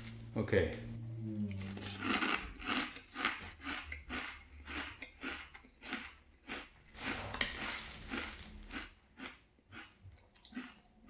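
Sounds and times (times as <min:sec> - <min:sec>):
crunchy cereal chewing: 0:01.6 - 0:11.0.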